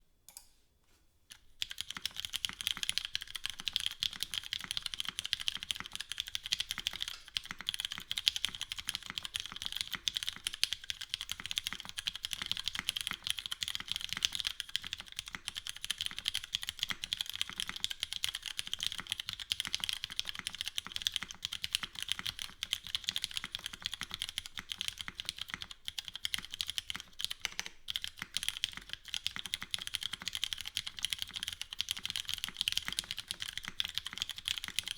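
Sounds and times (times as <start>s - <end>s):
fast typing on mechanical keyboard: 1.3s - 34.9s.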